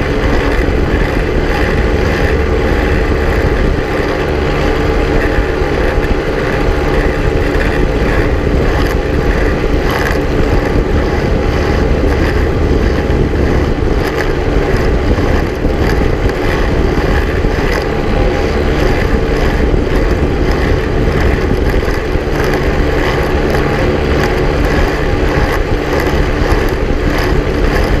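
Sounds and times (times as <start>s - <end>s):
ultralight aircraft engine and propeller drone: 0.0s - 28.0s.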